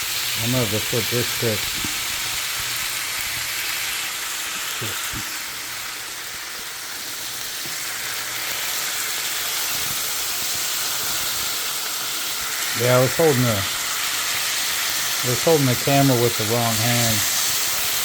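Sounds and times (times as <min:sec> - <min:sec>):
beef sizzling in a frying pan: 0:00.0 - 0:18.0.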